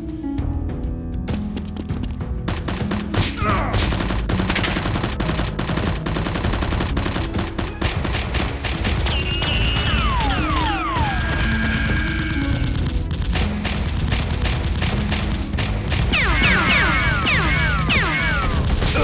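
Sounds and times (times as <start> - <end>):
background music: 0.0 - 19.0
automatic gunfire: 2.5 - 12.1, 12.7 - 19.0.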